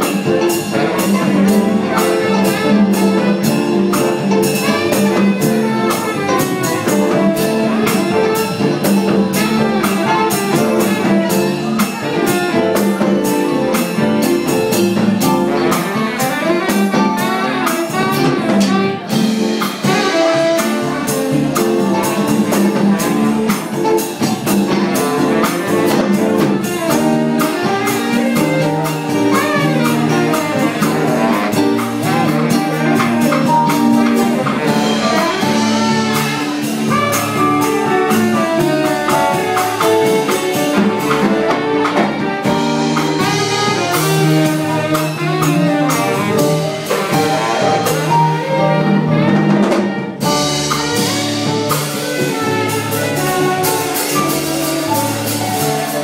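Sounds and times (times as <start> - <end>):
band holding notes: 0.0 - 56.0
saxophone playing jazz: 0.0 - 56.0.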